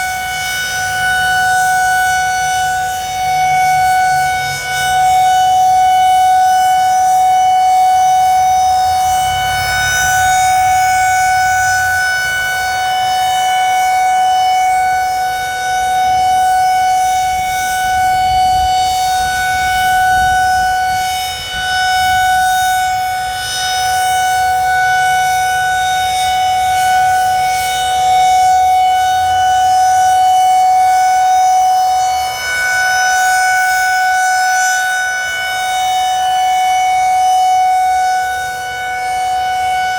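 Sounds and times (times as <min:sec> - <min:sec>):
steady high-tone warning siren: 0:00.0 - 0:39.9.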